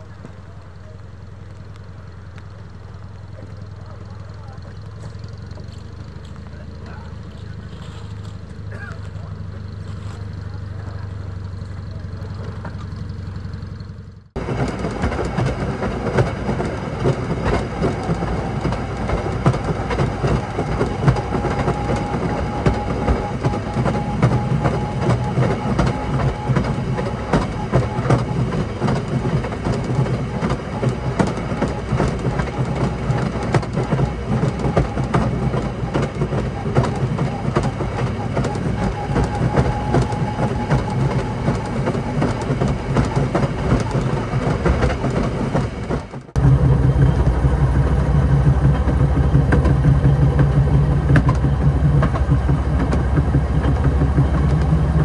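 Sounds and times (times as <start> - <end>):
wheels rattling over rails: 0.0 - 55.0.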